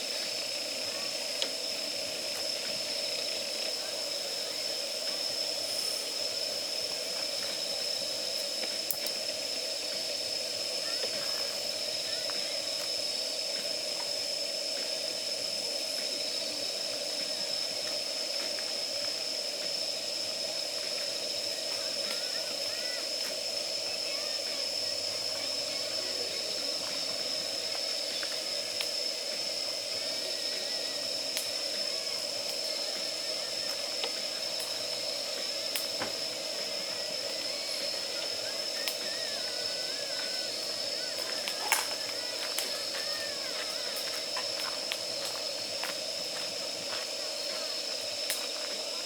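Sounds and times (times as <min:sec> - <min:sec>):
campfire crackling pops: 0:00.0 - 0:19.8, 0:20.4 - 0:49.0
gas burner hissing: 0:00.0 - 0:49.0.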